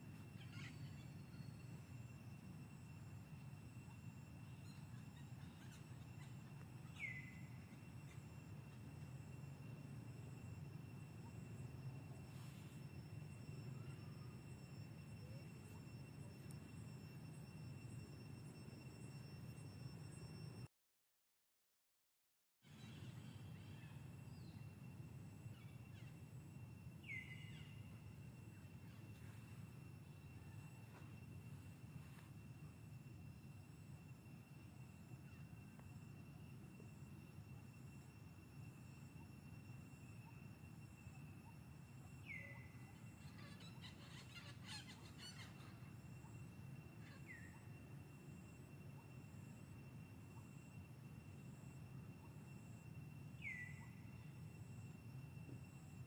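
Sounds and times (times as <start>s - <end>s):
low steady hiss: 0.0s - 20.6s, 22.7s - 56.0s.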